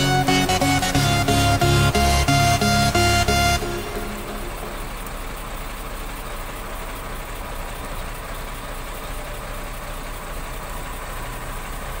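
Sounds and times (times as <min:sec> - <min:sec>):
heavy vehicle engine idling: 0:00.0 - 0:12.0.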